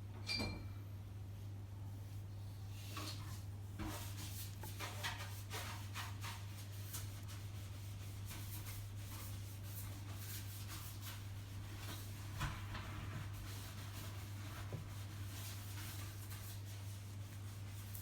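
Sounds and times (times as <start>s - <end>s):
low electrical hum: 0.0s - 18.0s
light scratching and rustling: 2.0s - 18.0s.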